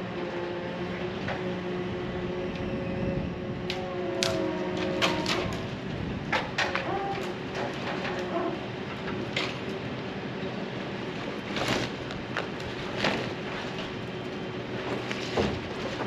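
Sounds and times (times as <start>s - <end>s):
machine running steadily: 0.0s - 16.0s.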